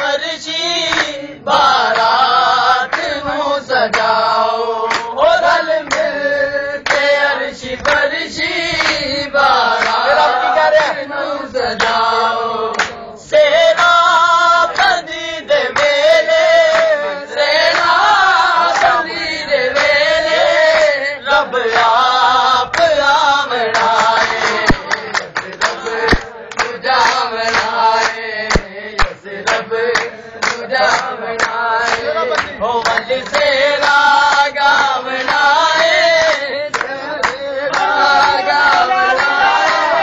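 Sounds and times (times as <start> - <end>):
men singing in chorus: 0.0 - 40.0
sharp hand claps: 0.8 - 6.2, 6.8 - 8.1, 8.7 - 10.1, 11.7 - 12.1, 12.7 - 18.1, 18.7 - 40.0.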